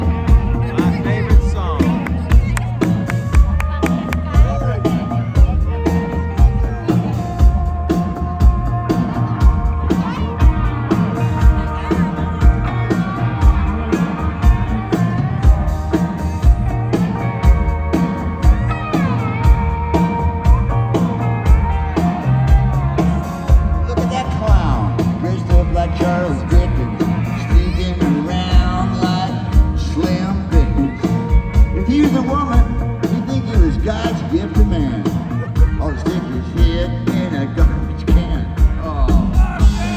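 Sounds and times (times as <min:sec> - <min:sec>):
electric guitars: 0:00.0 - 0:39.9
live rock band playing: 0:00.0 - 0:39.9
steady drum beat: 0:00.0 - 0:39.9.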